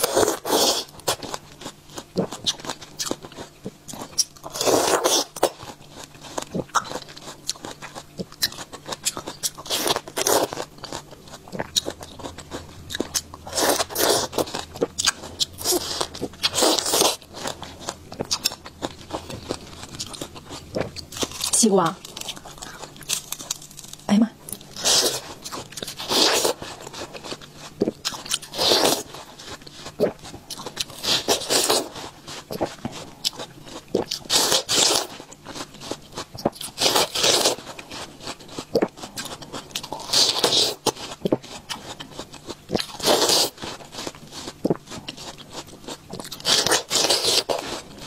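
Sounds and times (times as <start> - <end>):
chewing: 0.0 - 48.0.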